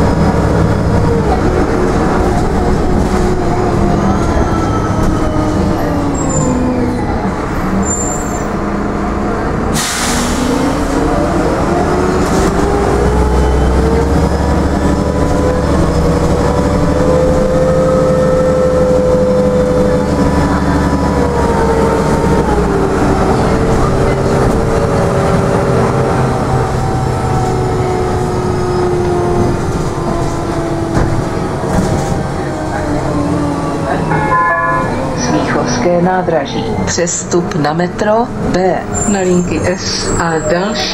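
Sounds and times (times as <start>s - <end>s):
bus drivetrain whine: 0.0s - 40.9s
heavy low engine rumble: 0.0s - 40.9s.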